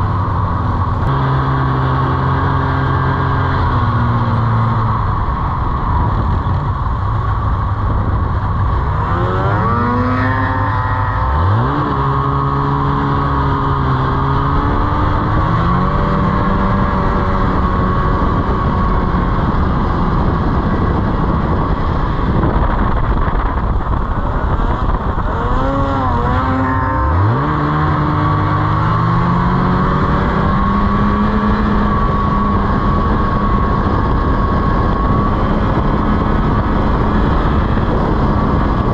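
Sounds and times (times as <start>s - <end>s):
snowmobile engine revving: 0.0s - 6.7s, 8.6s - 38.9s
constant rushing noise: 0.0s - 38.9s.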